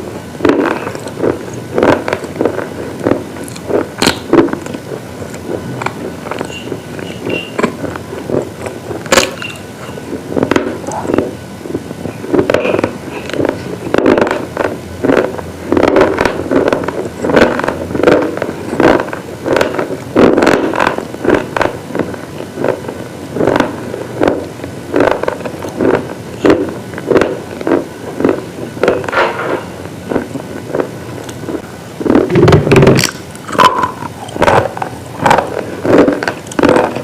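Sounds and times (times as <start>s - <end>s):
brittle chalky pieces crunching: 0.0s - 37.0s.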